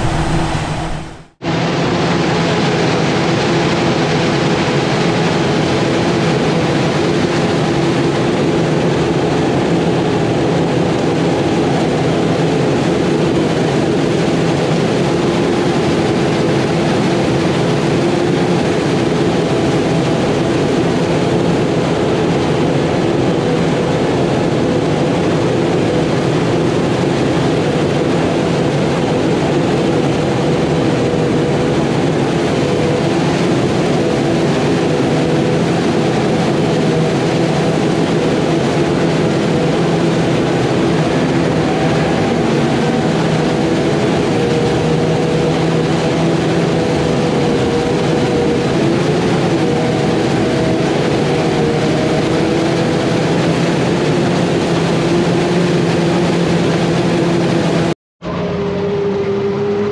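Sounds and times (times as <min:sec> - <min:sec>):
heavy machinery engine drone: 0:00.0 - 0:59.9.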